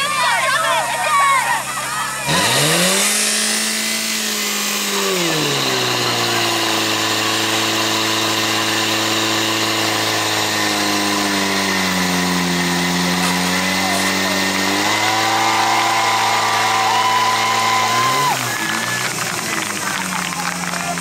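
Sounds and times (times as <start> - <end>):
pump engine running hard: 0.0 - 21.0.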